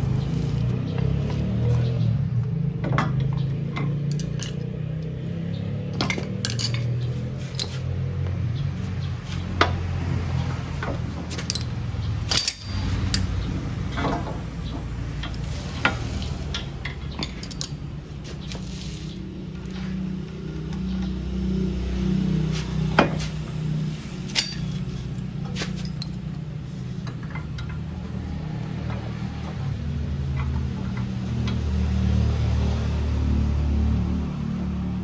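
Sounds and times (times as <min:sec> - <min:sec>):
tools and steel parts clinking: 0:00.0 - 0:21.3, 0:22.9 - 0:32.2.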